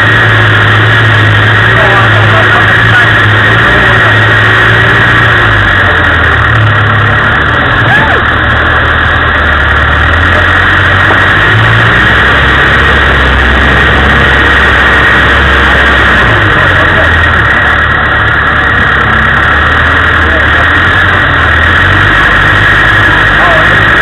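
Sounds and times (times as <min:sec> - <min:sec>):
car engine running at low revs: 0:00.0 - 0:24.0
loud steady rushing noise: 0:00.0 - 0:24.0.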